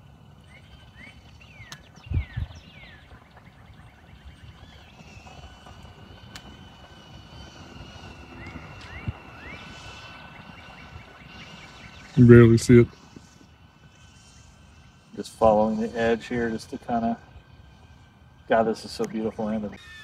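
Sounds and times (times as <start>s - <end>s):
wind buffeting microphone: 0.0s - 19.8s
birds chirping: 0.0s - 20.0s
faint high whine: 0.0s - 20.0s.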